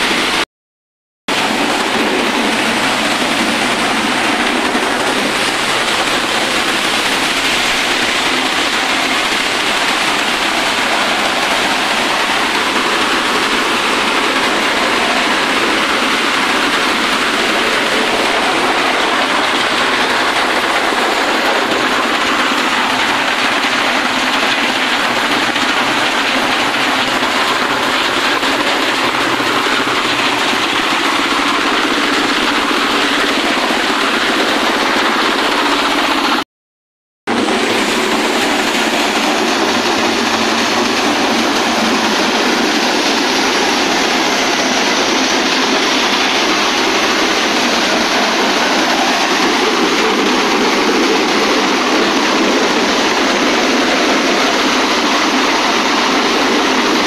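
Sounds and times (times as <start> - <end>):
corn thresher running: 0.0 - 0.4, 1.3 - 36.4, 37.3 - 57.0.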